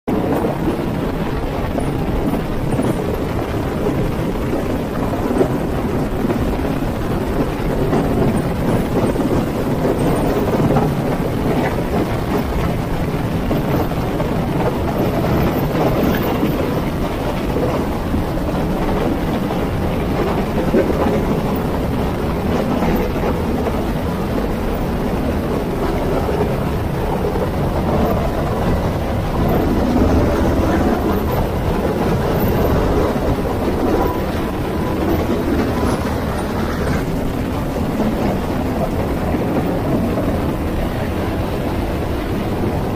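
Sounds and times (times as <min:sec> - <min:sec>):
helicopter hovering overhead: 0:00.1 - 0:42.9
rotor downwash buffeting microphone: 0:00.1 - 0:42.9.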